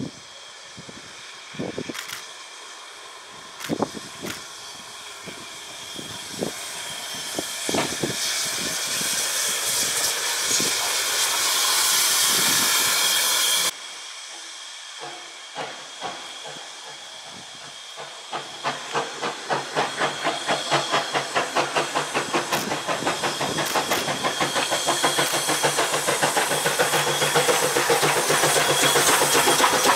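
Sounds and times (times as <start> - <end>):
steam hiss: 0.0 - 29.9
steam locomotive exhaust chuffing: 0.0 - 29.9.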